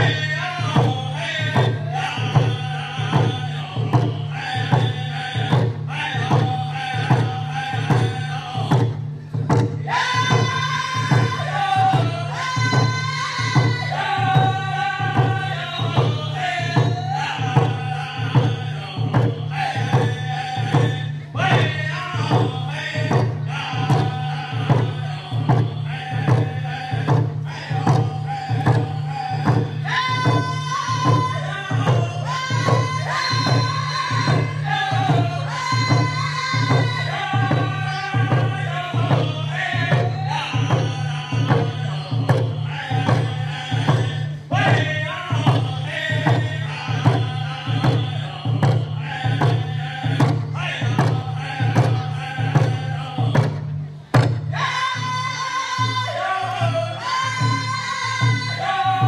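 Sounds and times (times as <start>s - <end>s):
group singing in unison: 0.0s - 59.0s
hand drums beating: 0.0s - 59.0s.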